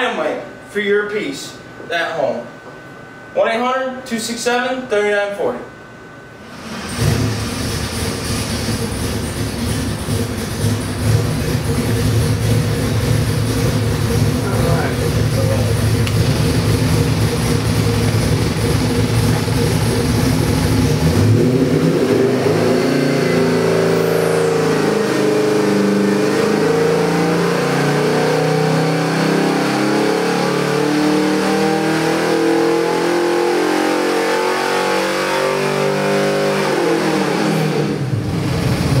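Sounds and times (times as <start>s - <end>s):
engine revving under load: 6.4s - 39.0s.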